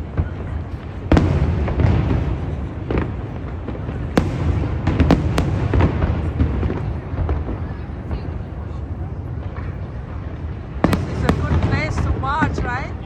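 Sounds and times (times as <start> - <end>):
fireworks bangs and crackles: 0.0 - 13.0
low rumble of launches: 0.0 - 13.0.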